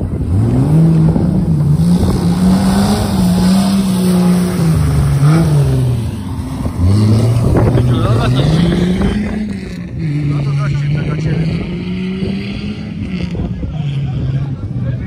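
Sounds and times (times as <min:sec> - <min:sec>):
engine revving hard: 0:00.0 - 0:14.5.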